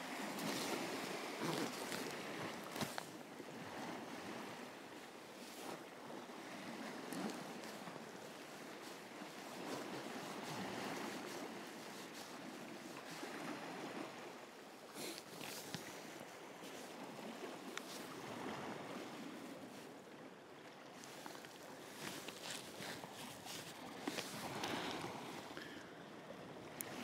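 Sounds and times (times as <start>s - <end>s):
sea water washing against rocks: 0.0s - 19.9s, 21.0s - 25.5s.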